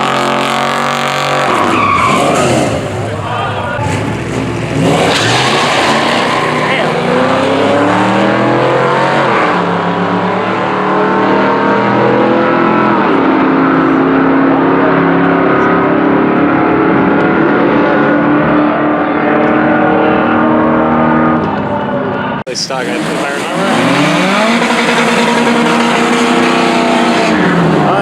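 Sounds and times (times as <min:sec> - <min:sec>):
racing car engine at full throttle: 0:00.0 - 0:28.0.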